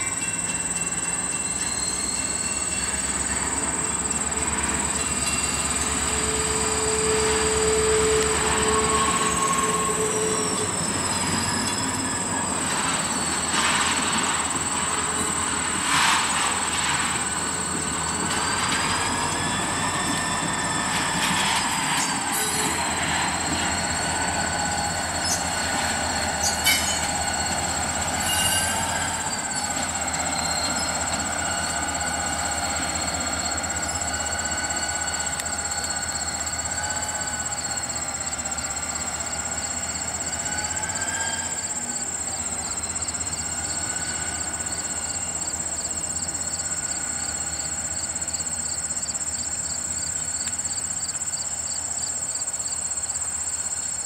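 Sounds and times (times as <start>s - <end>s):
squealing wheel tone: 0.0s - 51.4s
cricket trill: 0.0s - 54.0s
diesel locomotive engine rumble: 0.0s - 54.0s.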